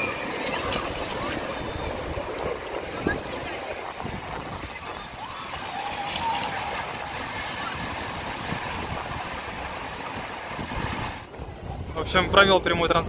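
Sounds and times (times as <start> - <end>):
surf washing up a beach: 0.0 - 13.0
wind rumbling on microphone: 0.0 - 13.0.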